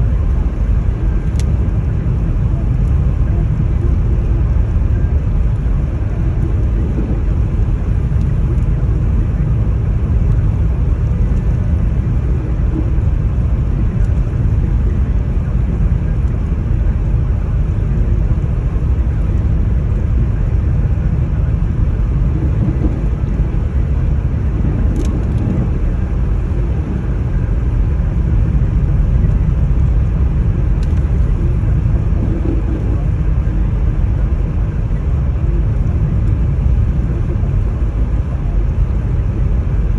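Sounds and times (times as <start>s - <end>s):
storm wind buffeting microphone: 0.0s - 39.9s.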